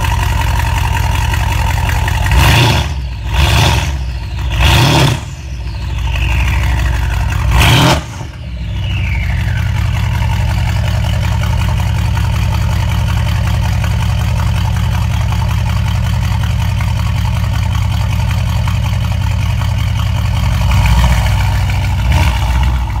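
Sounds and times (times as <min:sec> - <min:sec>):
loud engine idling burble: 0:00.0 - 0:23.0.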